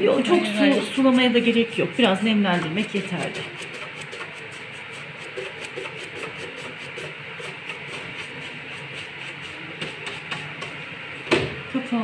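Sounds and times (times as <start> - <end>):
brush scrubbing wood: 0.2 - 10.7.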